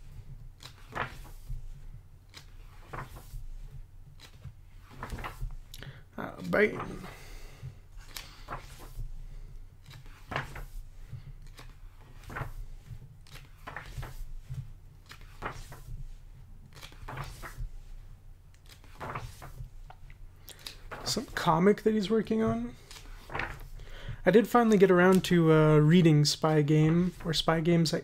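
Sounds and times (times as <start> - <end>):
book pages turning: 0.1 - 26.0, 26.7 - 27.6.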